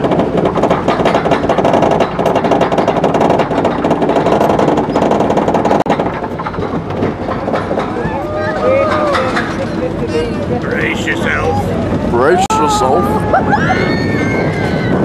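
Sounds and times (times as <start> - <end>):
roller coaster lift chain clatter: 0.0 - 15.0.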